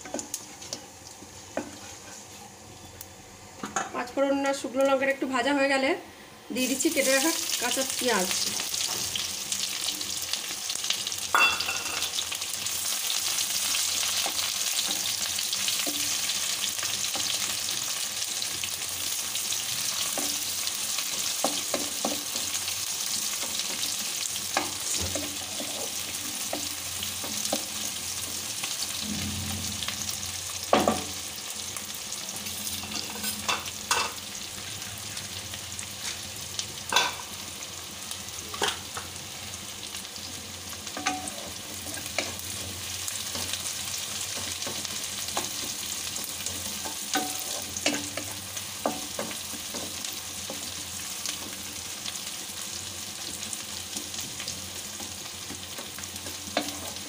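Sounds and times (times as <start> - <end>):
onions sizzling in oil: 0.0 - 57.0.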